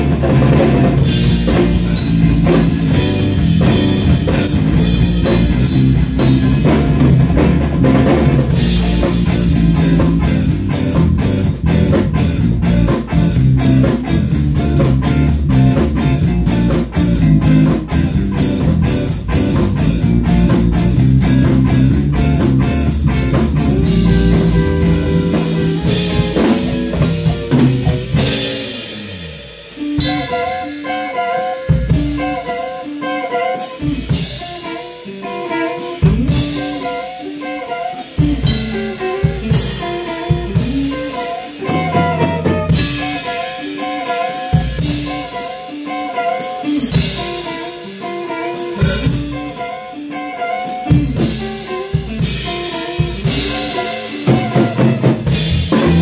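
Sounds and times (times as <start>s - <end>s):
drums beating: 0.0s - 56.0s
live rock jam: 0.0s - 56.0s
picked electric guitar line: 0.0s - 56.0s.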